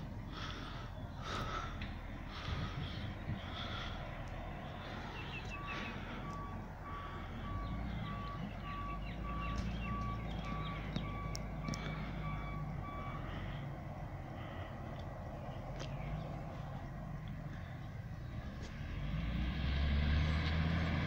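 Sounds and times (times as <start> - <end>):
truck reversing alarm beeping: 0.0 - 18.1
truck engine rumble: 0.0 - 21.0.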